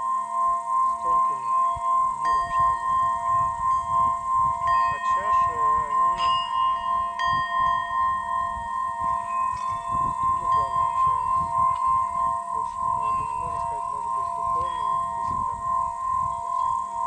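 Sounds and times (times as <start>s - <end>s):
singing bowl rim ringing: 0.0s - 17.0s
singing bowls struck: 0.0s - 17.0s.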